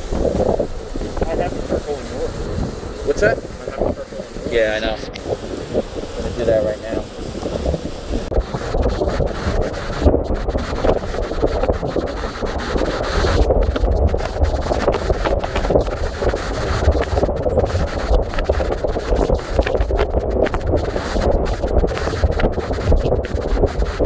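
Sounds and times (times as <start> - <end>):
driving rain: 0.0 - 24.0
strong wind buffeting microphone: 0.0 - 24.0.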